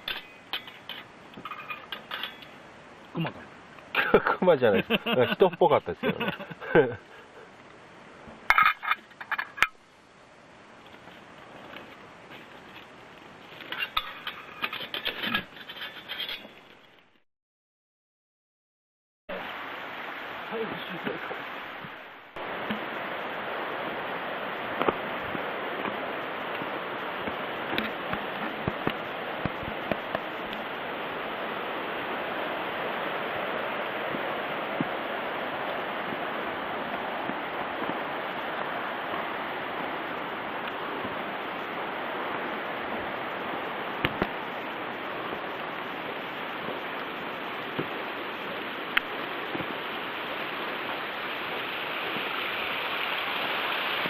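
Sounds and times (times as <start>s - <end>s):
running water rushing: 0.0s - 16.9s, 19.3s - 54.0s.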